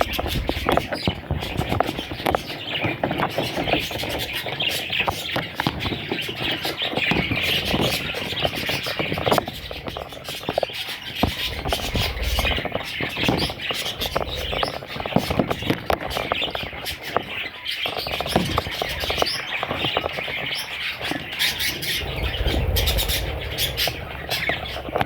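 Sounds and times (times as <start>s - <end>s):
parrots chattering and chirping: 0.0s - 25.0s.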